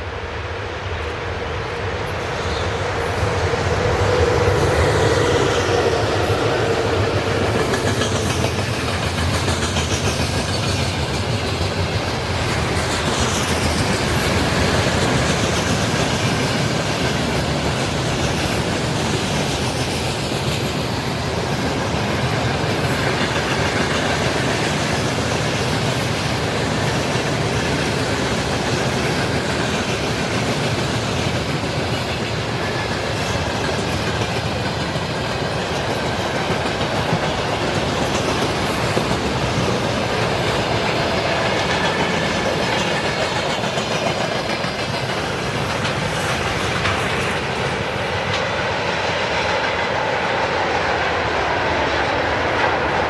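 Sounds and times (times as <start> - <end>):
freight train wagons rolling: 1.3 - 50.9
wheels clacking over rail joints: 1.8 - 50.0.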